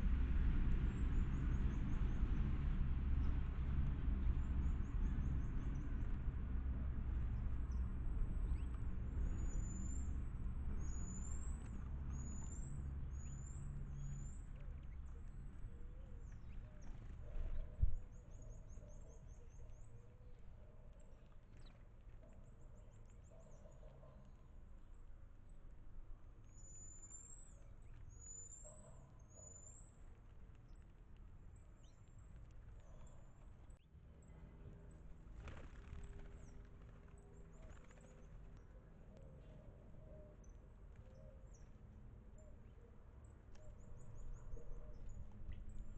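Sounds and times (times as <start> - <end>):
low background rumble: 0.0 - 45.9.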